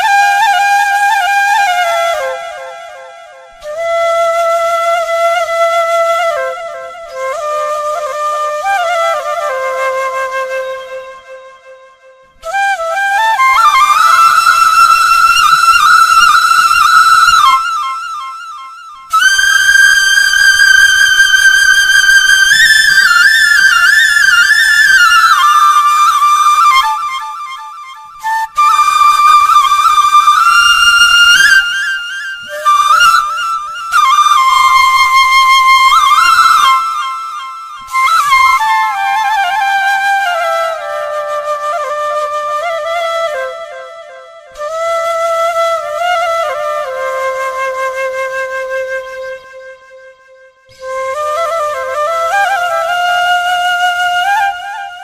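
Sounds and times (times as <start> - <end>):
bamboo flute melody: 0.0 - 55.0.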